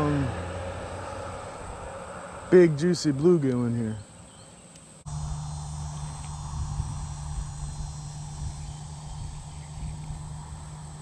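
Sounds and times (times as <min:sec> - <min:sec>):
insect chorus: 0:00.0 - 0:11.0
low steady hum: 0:00.0 - 0:11.0.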